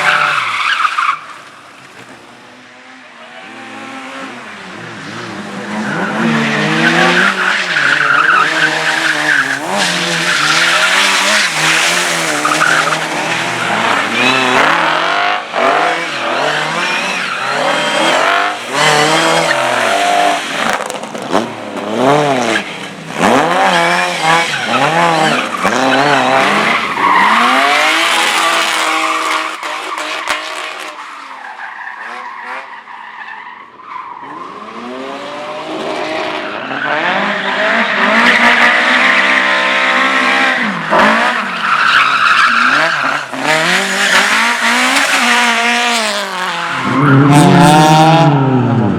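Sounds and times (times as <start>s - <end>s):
tyres skidding: 0.0s - 48.9s
race car engine revving: 3.3s - 31.0s, 34.2s - 48.9s.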